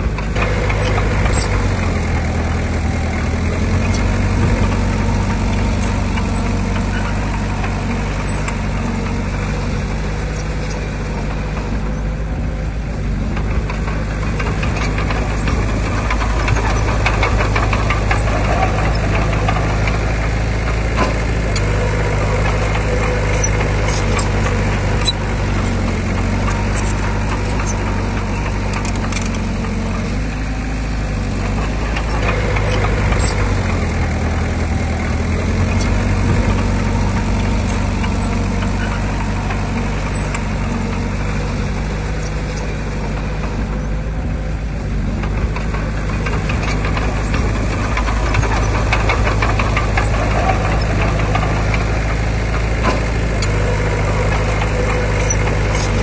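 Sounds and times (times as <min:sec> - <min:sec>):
irregular clatter: 0:00.0 - 0:12.7, 0:13.3 - 0:56.0
heavy diesel engine running: 0:00.0 - 0:56.0.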